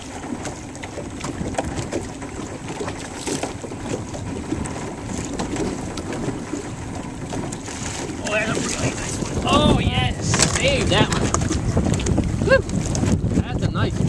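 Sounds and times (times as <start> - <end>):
light splashes: 0.0 - 13.1
water lapping against boat: 0.0 - 14.0
wind buffeting microphone: 0.0 - 14.0.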